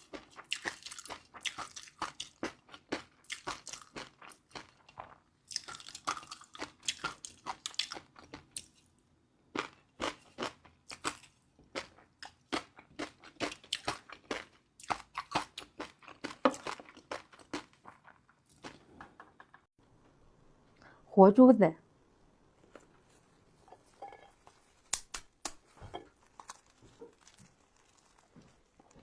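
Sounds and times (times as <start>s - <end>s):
chewing crunchy food: 0.0s - 19.6s, 22.0s - 29.0s.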